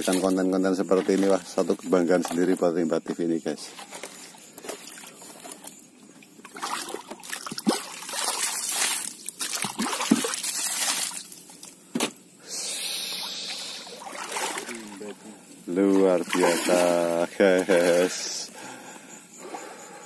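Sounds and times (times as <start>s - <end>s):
water trickling and splashing: 0.0s - 2.8s, 3.6s - 11.8s, 13.1s - 18.7s.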